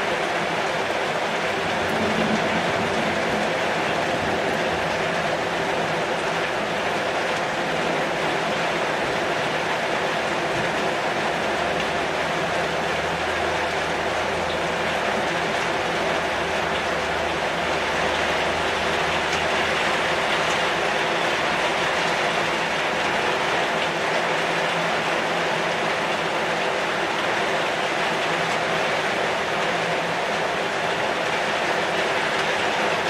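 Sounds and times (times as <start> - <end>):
heavy rain on a metal roof: 0.0 - 33.0.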